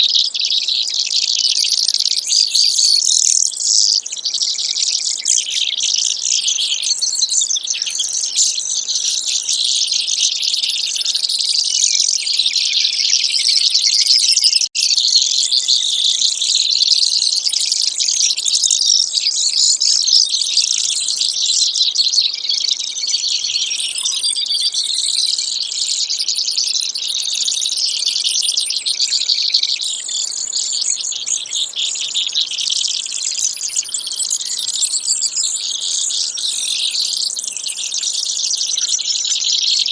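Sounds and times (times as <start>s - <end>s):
sparrow singing trills: 0.0s - 39.9s.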